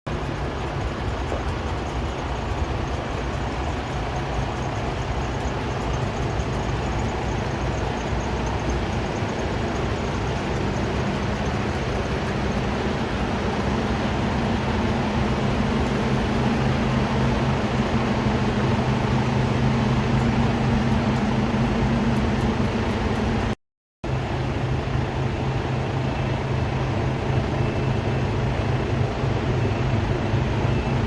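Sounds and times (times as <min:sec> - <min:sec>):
diesel engine running: 0:00.1 - 0:31.0.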